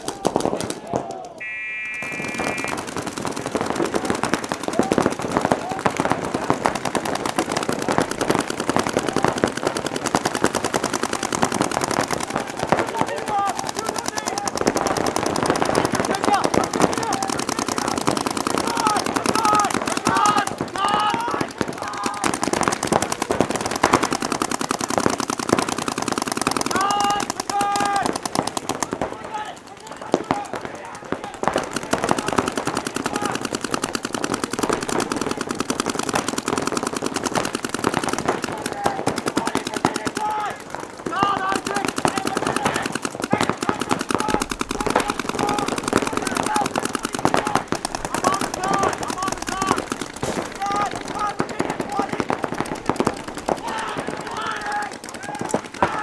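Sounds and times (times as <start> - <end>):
paintball markers firing: 0.0 - 56.0.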